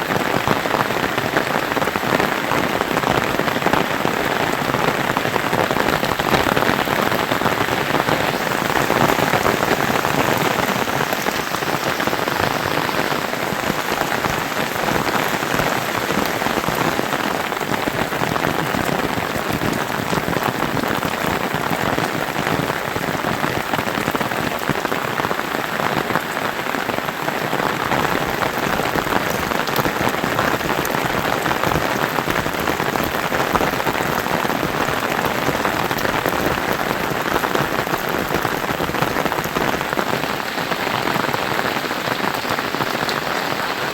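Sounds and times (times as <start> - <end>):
heavy rain pattering: 0.0 - 43.9.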